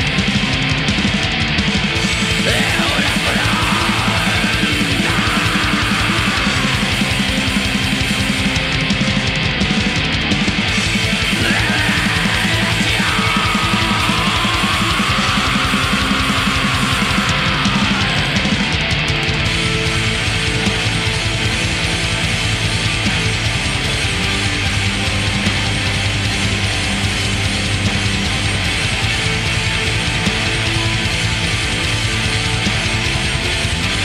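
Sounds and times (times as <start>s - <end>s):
distorted electric guitars: 0.0s - 34.0s
fast drumming: 0.0s - 34.0s.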